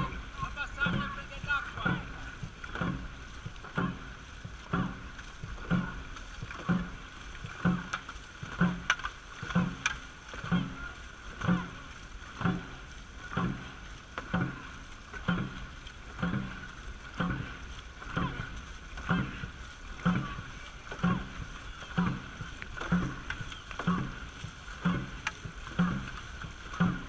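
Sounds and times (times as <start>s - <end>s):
paddles digging into water: 0.0s - 27.0s
water rushing along hull: 0.0s - 27.0s.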